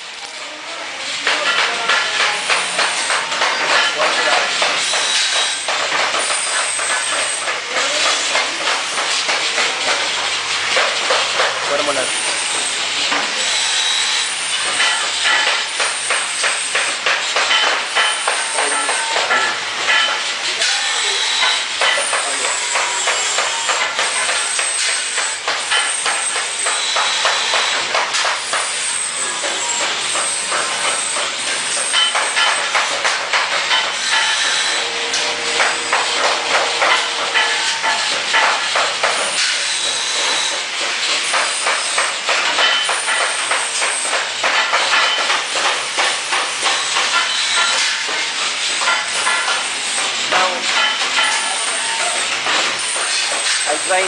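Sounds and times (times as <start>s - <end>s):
arc welding crackling hiss: 0.0s - 54.0s.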